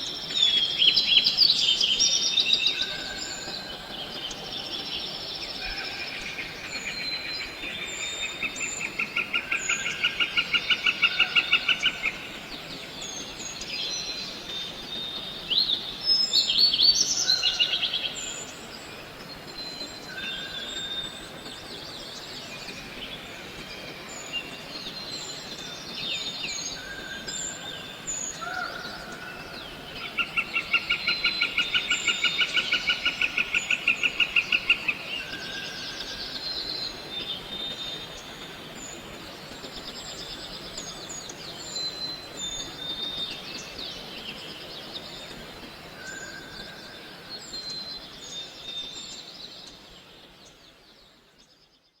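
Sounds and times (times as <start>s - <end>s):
birds calling and chirping: 0.0s - 50.7s
steady background hiss: 0.0s - 52.0s.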